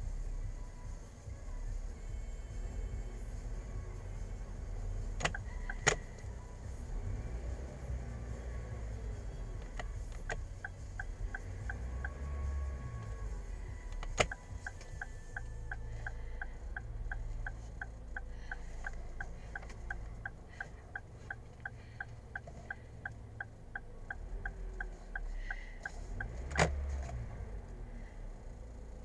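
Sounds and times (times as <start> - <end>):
car engine rumbling: 0.0 - 29.0
turn signal ticking: 0.0 - 29.0.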